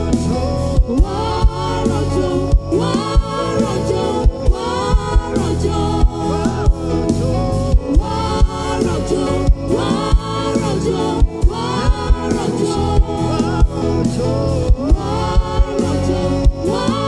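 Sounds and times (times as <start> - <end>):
bass drum beat: 0.0 - 17.0
choir singing over a band: 0.0 - 17.0.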